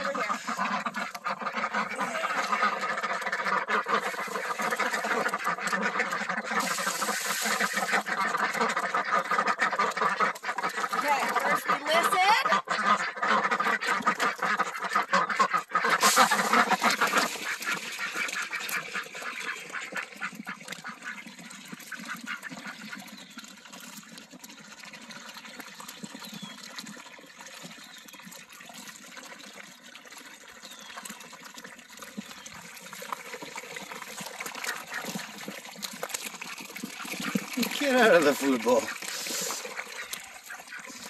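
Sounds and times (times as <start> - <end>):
ducks dabbling in water: 0.0 - 41.0.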